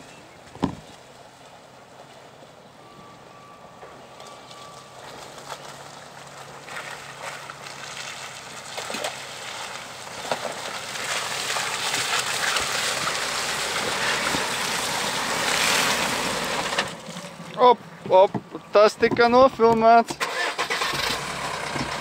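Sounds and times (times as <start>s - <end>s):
car engine running low: 0.0s - 22.0s
tyres splashing through muddy water: 4.2s - 22.0s.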